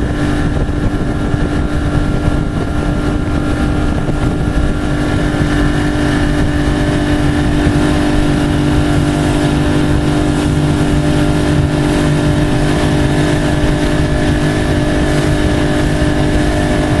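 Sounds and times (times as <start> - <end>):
boat engine drone: 0.0 - 17.0
rushing wind and water: 0.0 - 17.0.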